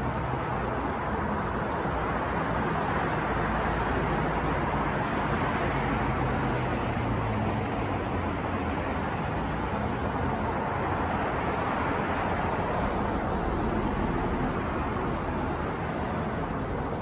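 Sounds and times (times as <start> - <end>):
traffic noise: 0.0 - 17.0
wind: 0.0 - 17.0.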